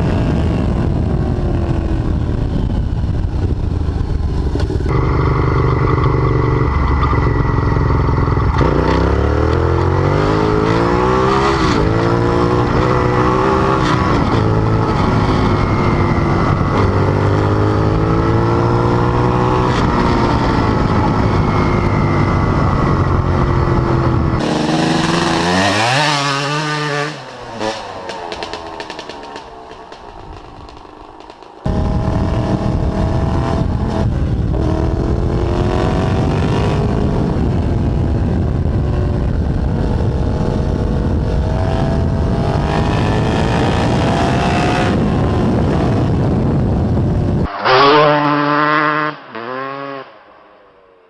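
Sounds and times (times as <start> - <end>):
motorcycle engine accelerating: 0.0 - 51.0
motorcycle passing by: 3.7 - 51.0.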